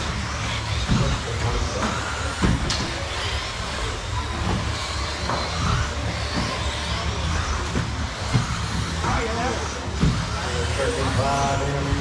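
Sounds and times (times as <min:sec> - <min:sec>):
constant low hum: 0:00.0 - 0:12.0
rattling chassis and tyre noise: 0:00.0 - 0:12.0
rc car motor whine: 0:00.0 - 0:12.0.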